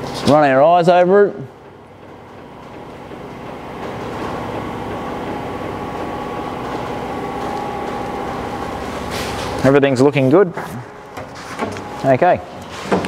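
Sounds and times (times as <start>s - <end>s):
mechanical rumble and drone: 0.0s - 12.6s.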